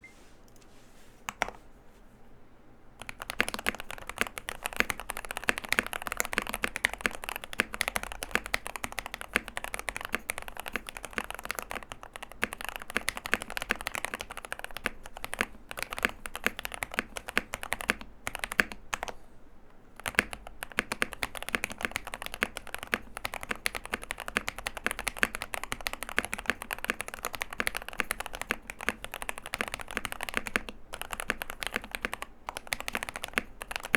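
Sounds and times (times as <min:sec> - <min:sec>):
typing on mechanical keyboard: 0:03.0 - 0:19.2, 0:20.0 - 0:33.9.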